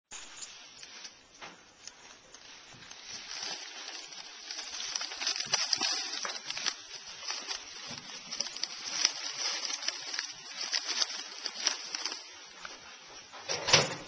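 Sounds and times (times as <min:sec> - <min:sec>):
rat gnawing a pretzel: 0:00.4 - 0:13.4.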